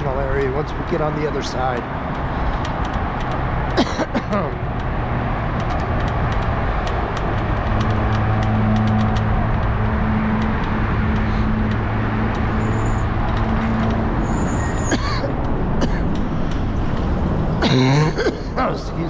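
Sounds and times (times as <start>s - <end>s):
freeway traffic roar: 0.0s - 19.0s.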